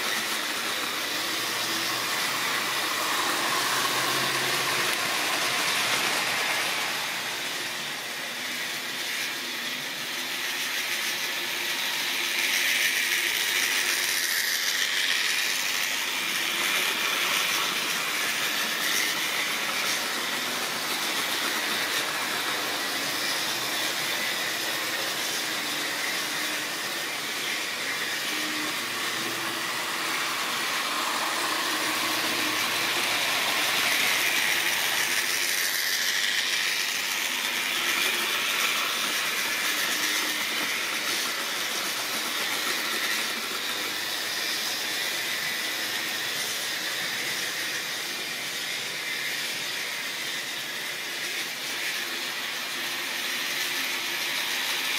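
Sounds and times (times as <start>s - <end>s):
model train motors whirring: 0.0s - 54.9s
wheels rolling on rails: 0.0s - 54.9s.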